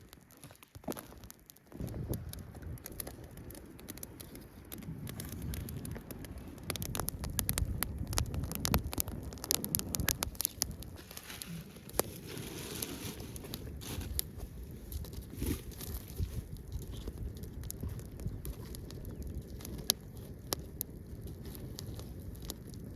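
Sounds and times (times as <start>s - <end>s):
campfire crackling: 0.0s - 22.9s
fire pops and clicks: 0.0s - 22.9s
low rustling rumble: 1.8s - 22.9s.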